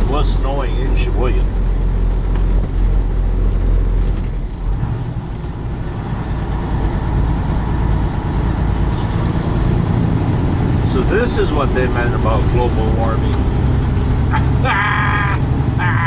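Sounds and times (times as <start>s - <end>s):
diesel engine: 0.0s - 16.0s
road noise: 0.0s - 16.0s.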